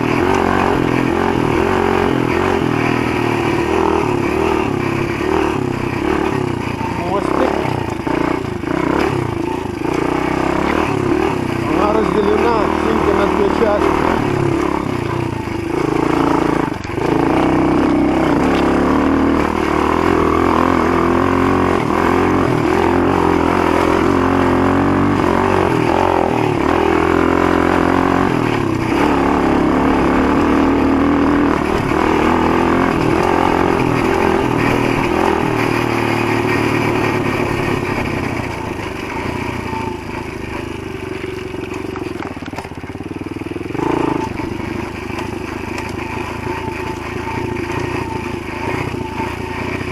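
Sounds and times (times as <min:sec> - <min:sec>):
motorbike engine running: 0:00.0 - 0:49.9.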